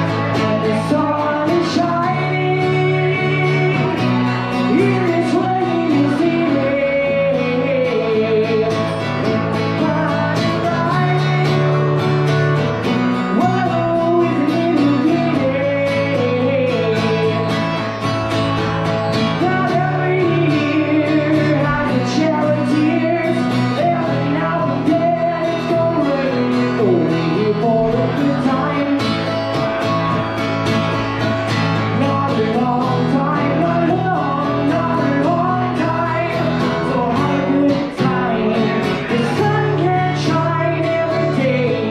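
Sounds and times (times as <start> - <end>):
person singing: 0.0 - 41.9
strummed guitar chords: 0.0 - 41.9.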